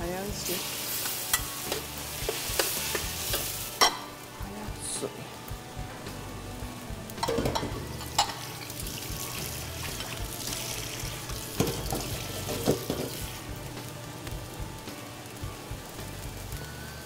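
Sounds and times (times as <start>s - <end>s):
sauce bubbling and hissing in wok: 0.0s - 17.0s.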